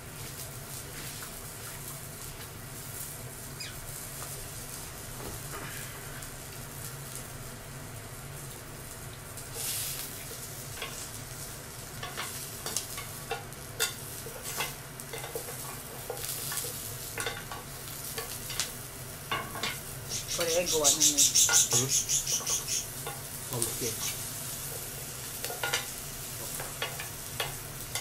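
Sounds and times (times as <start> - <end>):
food sizzling on a grill plate: 0.0 - 28.0.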